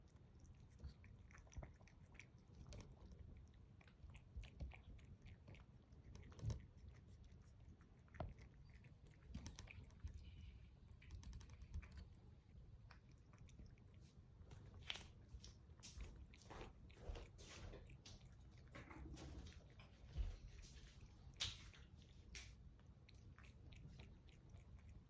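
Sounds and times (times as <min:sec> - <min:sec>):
cats chewing wetly: 0:00.0 - 0:25.0.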